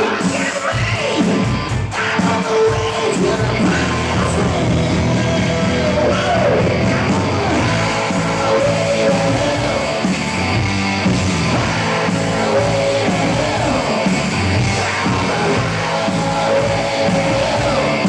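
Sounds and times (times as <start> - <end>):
person singing: 0.0 - 10.2, 11.5 - 18.0
drum kit: 0.0 - 18.0
electric guitars: 0.0 - 18.0.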